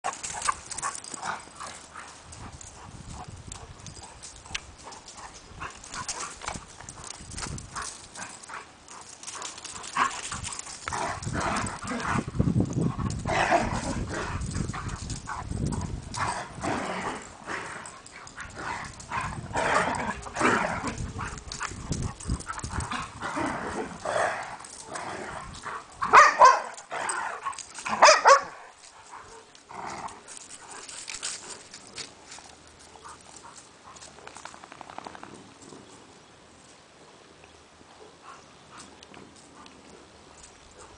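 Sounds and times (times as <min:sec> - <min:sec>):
dog paws running on grass: 0:00.0 - 0:36.0.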